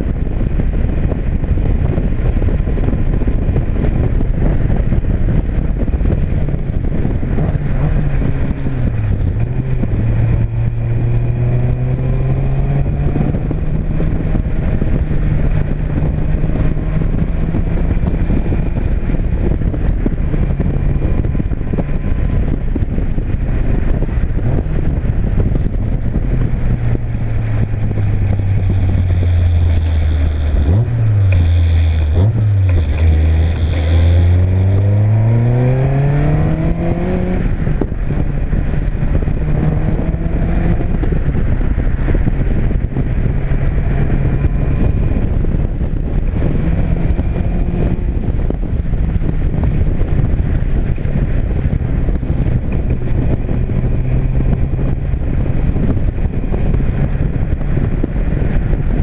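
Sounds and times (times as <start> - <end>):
sports car engine pulling hard: 0.0 - 59.0.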